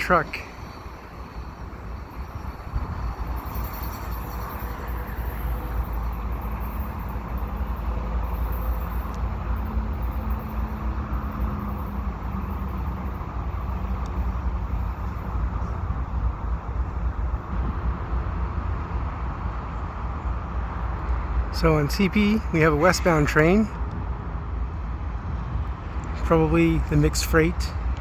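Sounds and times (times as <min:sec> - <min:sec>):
diesel locomotives rumbling: 0:00.0 - 0:28.0
road traffic: 0:00.0 - 0:28.0.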